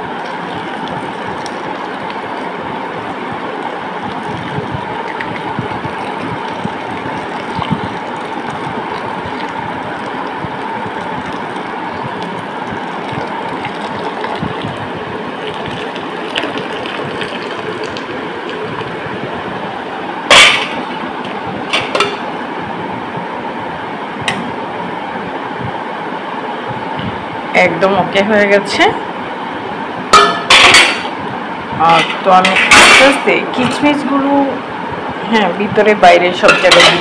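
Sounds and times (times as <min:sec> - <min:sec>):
steady rushing noise with hum: 0:00.0 - 0:37.0.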